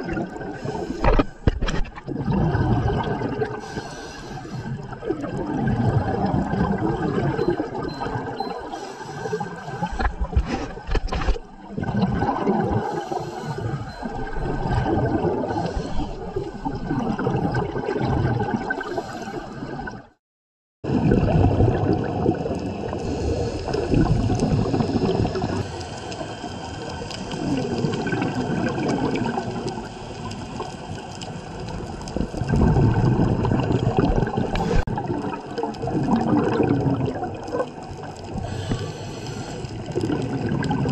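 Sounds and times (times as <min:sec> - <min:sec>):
underwater bubbling: 0:00.0 - 0:20.2, 0:20.9 - 0:40.9.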